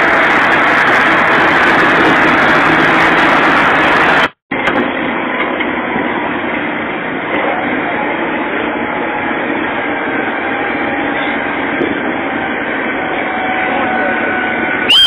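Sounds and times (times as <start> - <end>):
heavy machinery engines running: 0.0 - 15.0.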